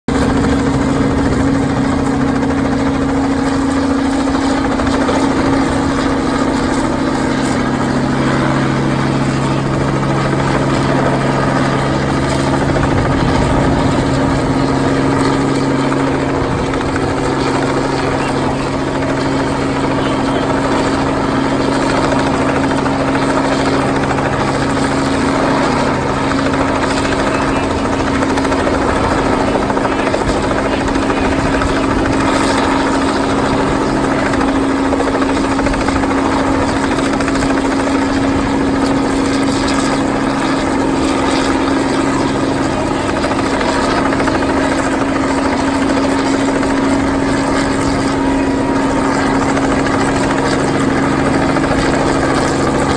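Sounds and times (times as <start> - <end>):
helicopter rotor and engine drone: 0.0 - 52.9.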